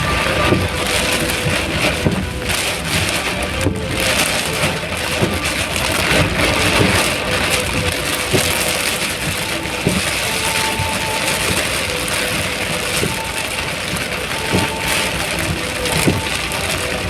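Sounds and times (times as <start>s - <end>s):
heavy rain hiss: 0.0s - 17.0s
raindrops knocking on surfaces: 0.0s - 17.0s.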